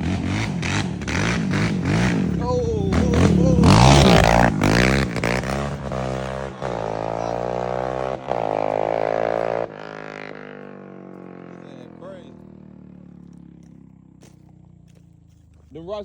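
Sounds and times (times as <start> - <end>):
quad bike engine droning: 0.0 - 16.0.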